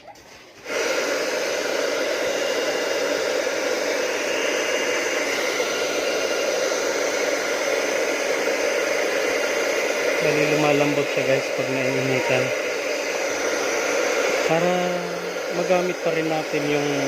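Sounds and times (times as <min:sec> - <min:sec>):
hot-air blower hissing: 0:00.3 - 0:17.0.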